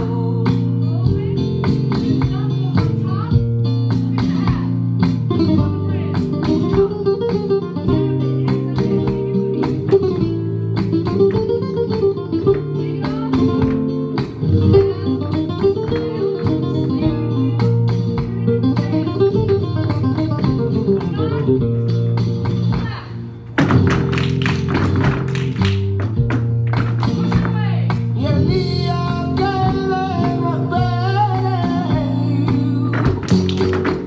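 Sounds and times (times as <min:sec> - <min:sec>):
flamenco guitar music: 0:00.0 - 0:34.0.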